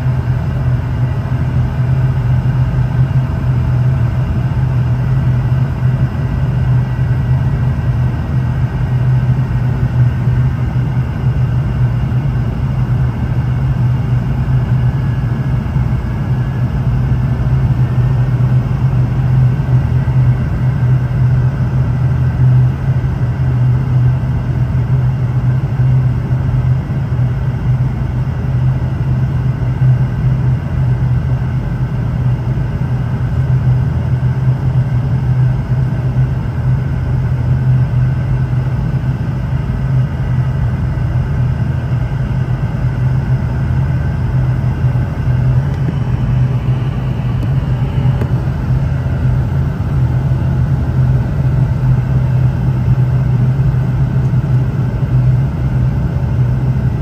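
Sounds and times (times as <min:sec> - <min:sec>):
jet engine drone in cabin: 0:00.0 - 0:57.0.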